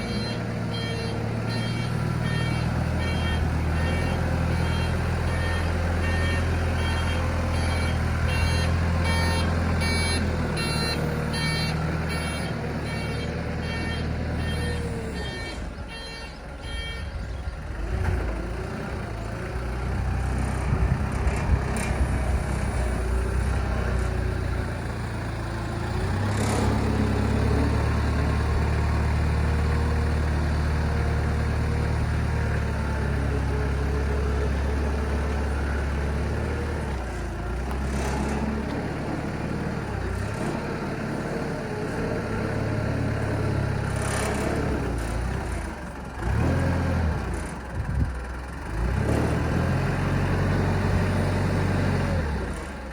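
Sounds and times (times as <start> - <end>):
forklift diesel engine running: 0.0 - 52.9.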